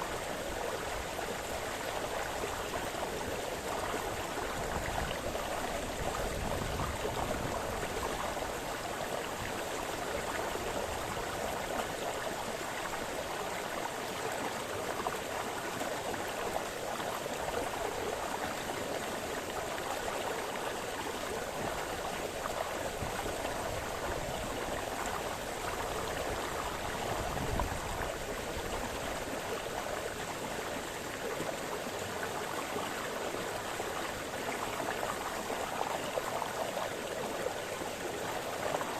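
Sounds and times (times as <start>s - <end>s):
brook gurgling over stones: 0.0s - 38.9s.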